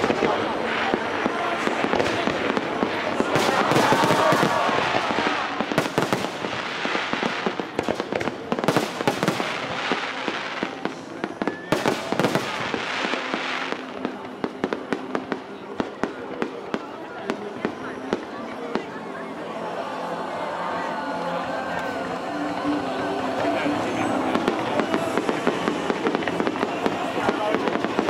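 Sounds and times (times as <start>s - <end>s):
fireworks crackling and popping: 0.0s - 19.2s, 21.6s - 28.0s.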